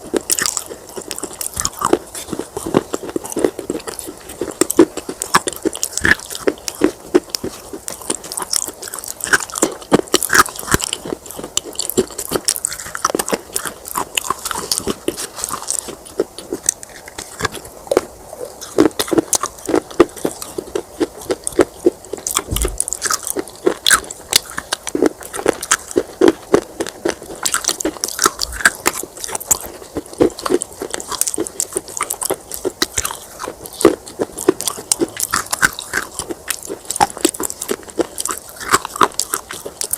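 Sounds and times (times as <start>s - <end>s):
chewing: 0.0s - 39.9s
crunching brittle clay pieces: 0.1s - 39.9s.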